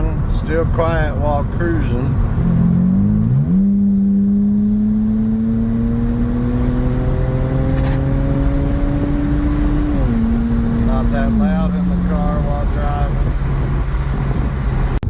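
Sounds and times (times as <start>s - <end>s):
car engine and exhaust drone: 0.0s - 15.0s
low road rumble: 0.0s - 15.0s.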